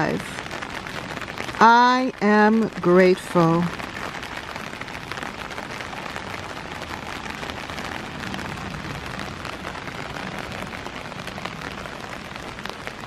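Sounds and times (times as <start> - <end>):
rain pattering on deck: 0.0 - 13.0.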